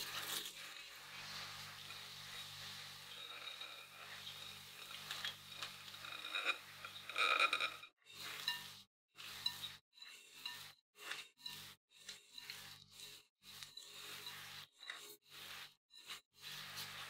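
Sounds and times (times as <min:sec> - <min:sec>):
spatula stirring batter in glass bowl: 0:00.0 - 0:17.0.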